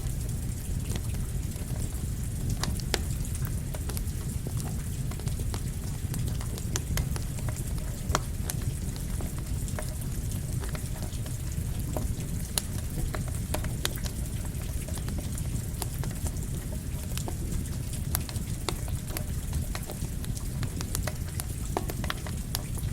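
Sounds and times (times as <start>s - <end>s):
campfire crackling and popping: 0.0s - 22.9s
rain rushing: 0.0s - 22.9s.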